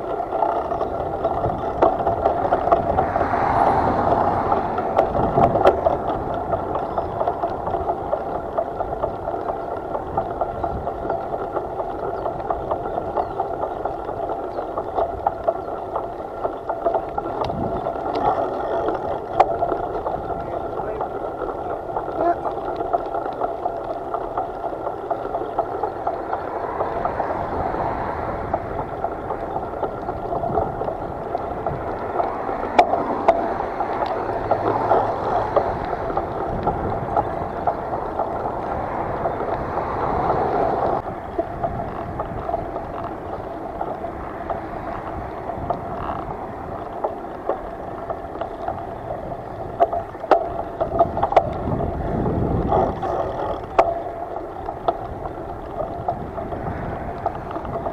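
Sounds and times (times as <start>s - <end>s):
rushing gurgling water: 0.0s - 57.9s.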